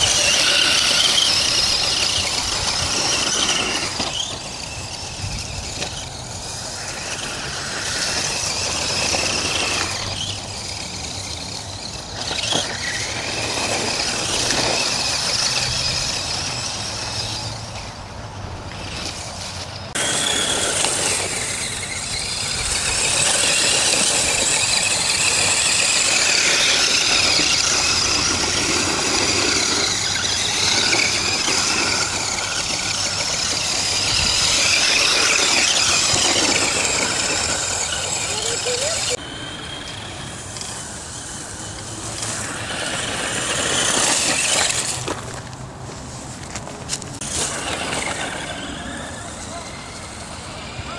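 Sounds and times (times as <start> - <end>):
toy truck electric motor whining: 0.0 - 50.9
tyres through dry leaves: 0.0 - 50.9.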